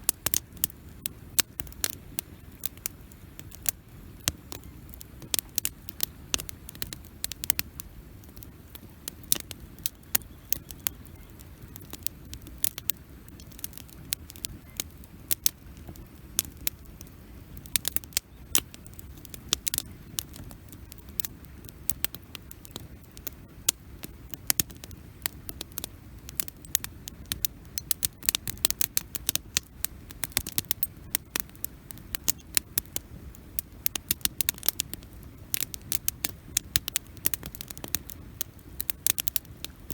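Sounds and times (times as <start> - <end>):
campfire crackling and popping: 0.0 - 39.9
low fire rumble: 0.0 - 39.9.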